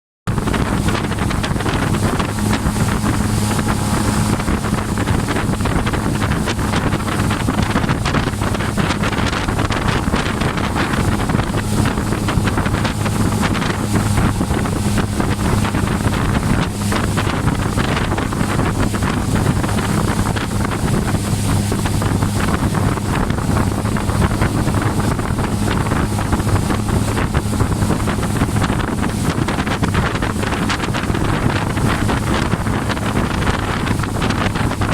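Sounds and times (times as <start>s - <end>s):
motorboat engine droning: 0.3s - 34.9s
water rushing: 0.3s - 34.9s
wind buffeting microphone: 0.3s - 34.9s.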